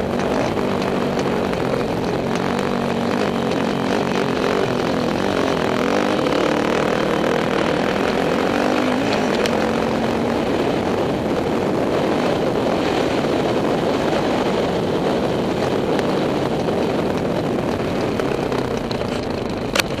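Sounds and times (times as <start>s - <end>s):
dirt bike engine revving: 0.0s - 20.0s
wind noise: 0.0s - 20.0s.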